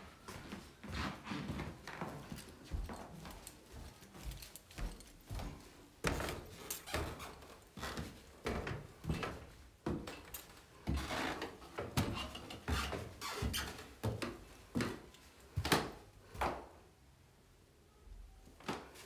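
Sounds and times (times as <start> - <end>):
footsteps on wooden stairs: 0.3 - 16.6.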